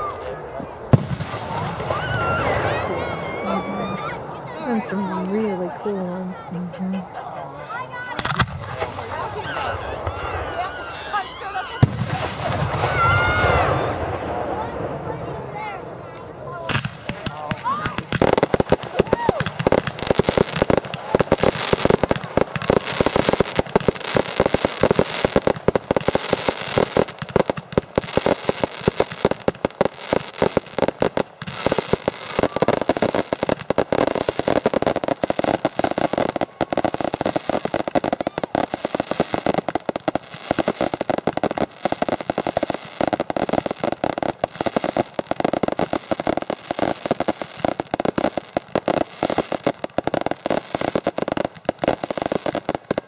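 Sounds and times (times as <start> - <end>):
fireworks crackling: 0.0 - 53.0.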